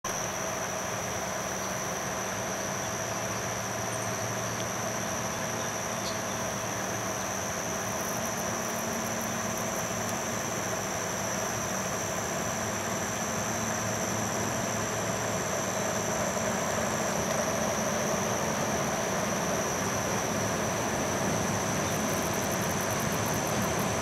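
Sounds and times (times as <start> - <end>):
insects buzzing: 0.1 - 24.0
diesel locomotive engine humming: 0.2 - 24.0.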